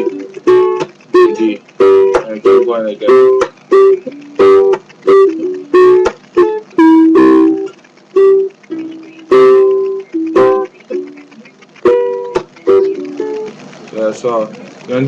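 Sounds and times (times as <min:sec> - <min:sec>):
ukulele strumming chords: 0:00.0 - 0:14.8.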